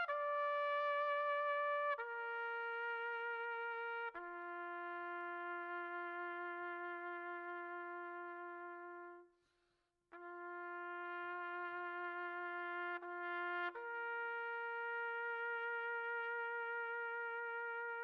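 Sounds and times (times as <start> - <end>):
solemn solo trumpet: 0.0 - 9.4, 10.1 - 18.0.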